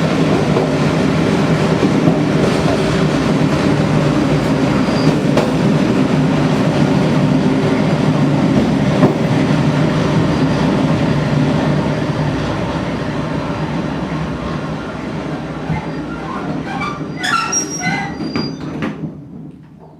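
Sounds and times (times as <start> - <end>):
train wheels rumbling: 0.0 - 19.9.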